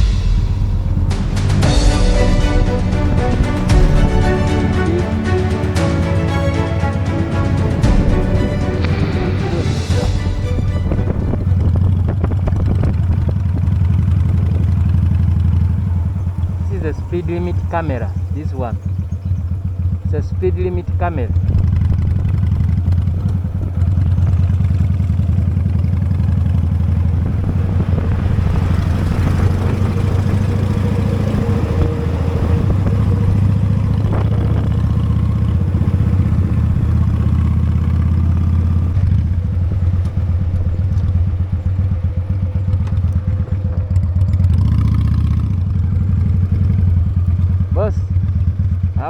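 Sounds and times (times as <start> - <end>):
motorcycle engine pulsing exhaust: 0.0 - 5.0, 7.4 - 49.0.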